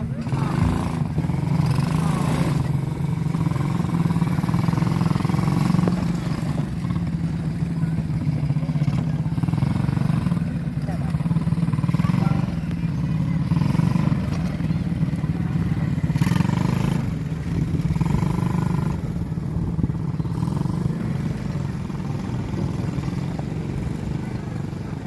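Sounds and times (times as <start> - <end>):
small atv engine running: 0.0 - 25.0.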